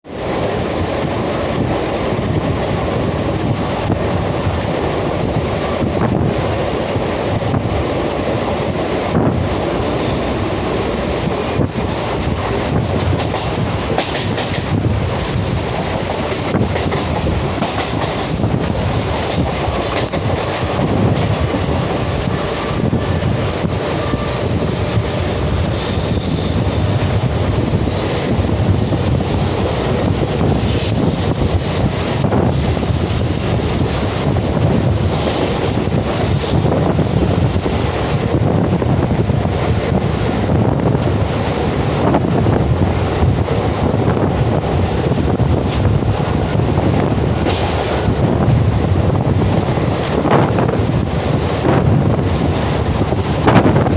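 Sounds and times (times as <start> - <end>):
electric train wheel and rail noise: 0.0 - 53.9.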